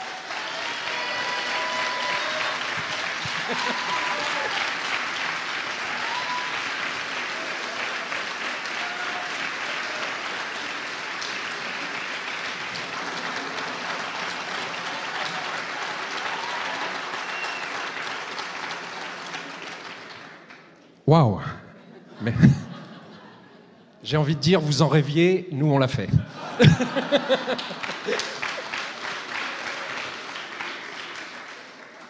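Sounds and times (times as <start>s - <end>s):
audience applauding: 0.0s - 20.8s, 26.5s - 32.0s.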